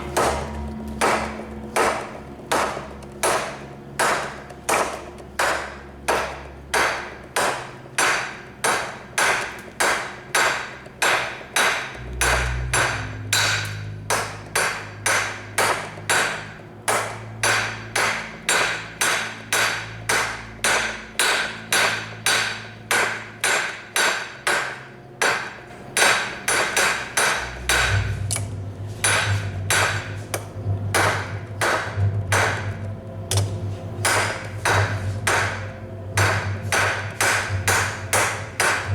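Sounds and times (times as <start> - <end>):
low hum: 0.0 - 24.0, 24.8 - 38.9
hammer striking steel on anvil: 0.0 - 38.9.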